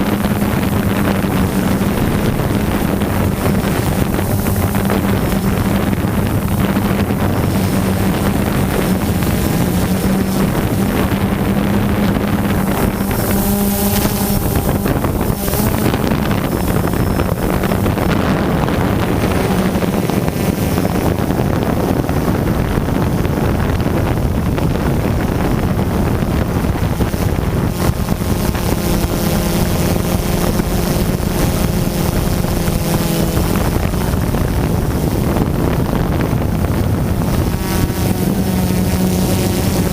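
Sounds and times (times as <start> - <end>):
drone motors buzzing: 0.0 - 39.9
wind on microphone: 0.0 - 39.9.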